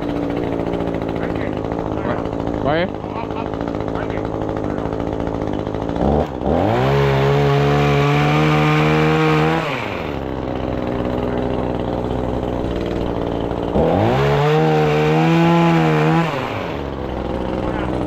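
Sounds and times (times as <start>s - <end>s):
small engine revving and idling: 0.0s - 18.0s.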